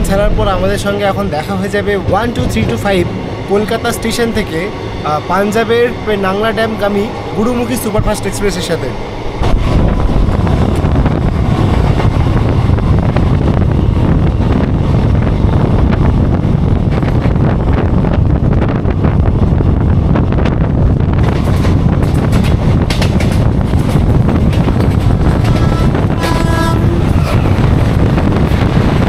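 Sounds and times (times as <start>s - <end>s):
train wheels rumbling on rails: 0.0s - 29.0s
wind buffeting microphone: 0.0s - 29.0s.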